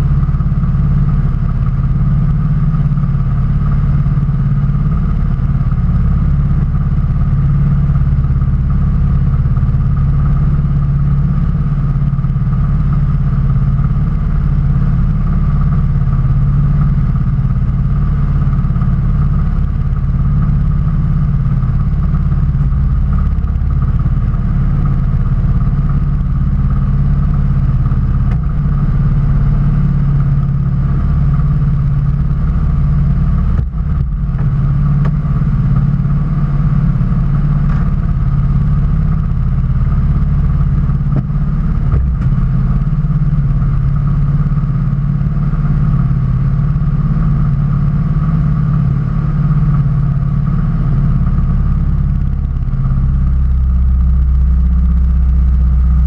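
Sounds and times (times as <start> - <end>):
engine idling low drone: 0.0 - 56.0.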